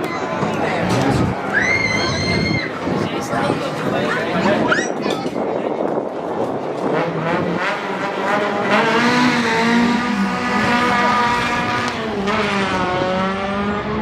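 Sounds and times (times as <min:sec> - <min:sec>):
car engines revving: 0:00.0 - 0:04.7, 0:05.3 - 0:14.0.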